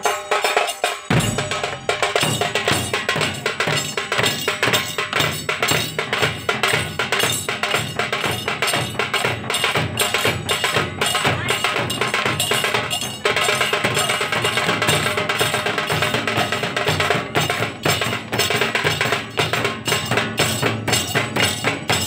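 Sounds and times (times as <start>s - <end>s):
dhol drums beaten with sticks: 0.0s - 22.0s.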